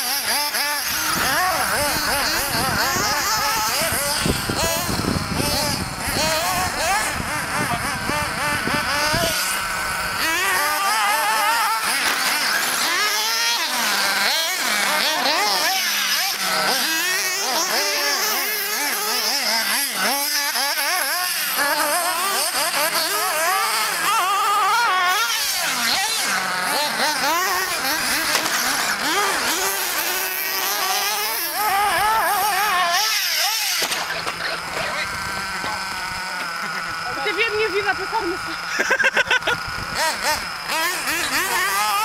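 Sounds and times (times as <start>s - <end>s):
radio-controlled car motors revving: 0.0s - 42.0s.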